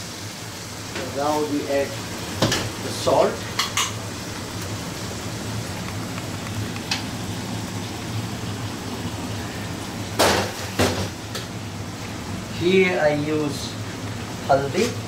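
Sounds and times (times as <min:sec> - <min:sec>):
gas burners and extraction rushing: 0:00.0 - 0:15.0.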